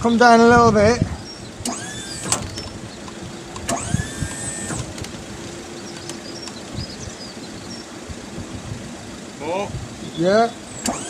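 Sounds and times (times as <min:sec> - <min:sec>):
low hum: 0:00.0 - 0:11.0
crane motor whine: 0:01.1 - 0:11.0.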